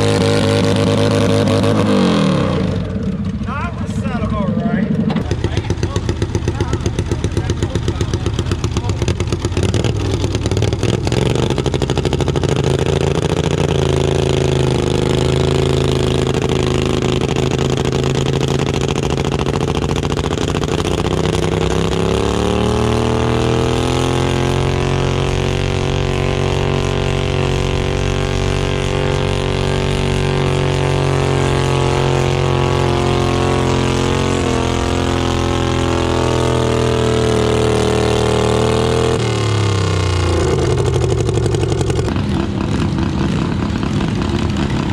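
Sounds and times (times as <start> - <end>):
tractor engine running hard: 0.0 - 44.9.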